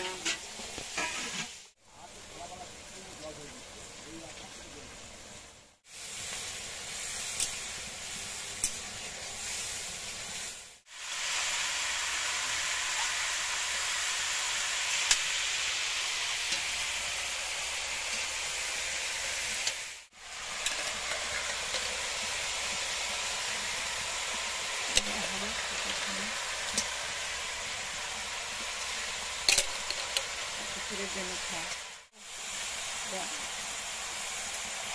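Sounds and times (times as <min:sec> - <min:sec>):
vegetables sizzling in hot oil: 0:00.0 - 0:34.9.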